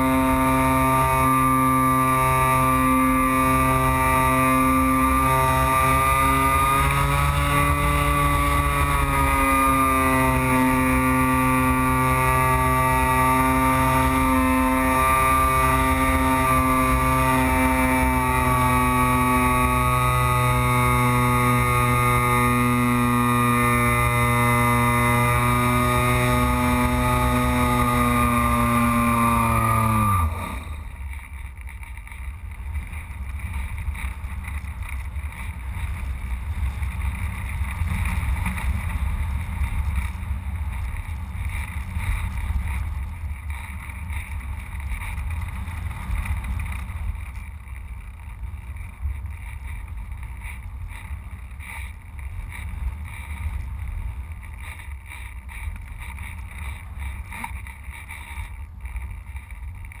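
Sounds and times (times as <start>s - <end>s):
airflow buffeting over camera: 0.0s - 60.0s.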